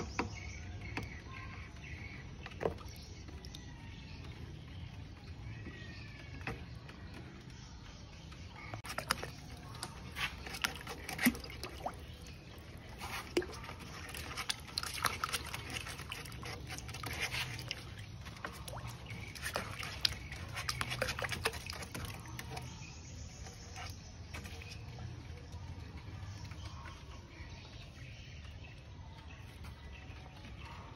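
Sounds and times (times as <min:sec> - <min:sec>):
water splashing in a tub: 0:00.0 - 0:28.3.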